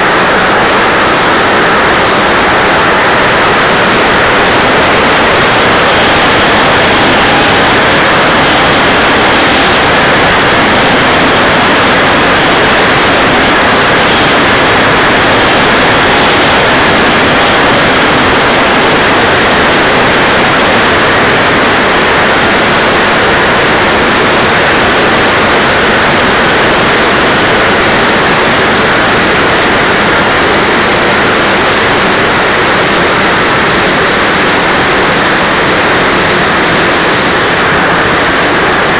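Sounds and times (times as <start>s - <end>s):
model jet engine and airflow rushing: 0.0s - 38.9s.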